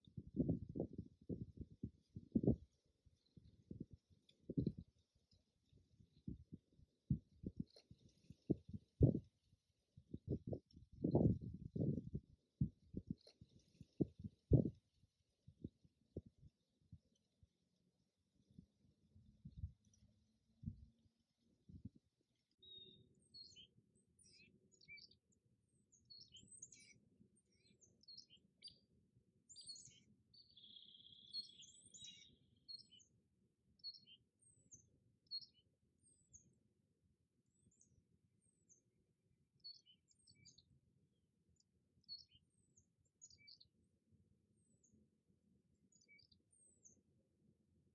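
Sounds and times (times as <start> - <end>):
small birds chirping: 0.0 - 17.3, 21.8 - 36.7, 37.5 - 38.9, 39.6 - 43.9, 44.5 - 47.2.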